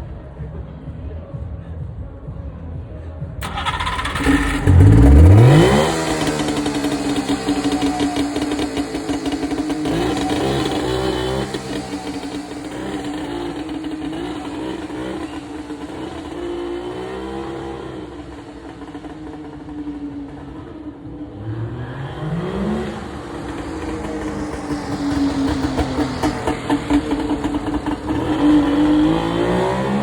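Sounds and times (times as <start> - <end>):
car engine revving: 3.4 - 30.0
car engines running: 3.4 - 30.0.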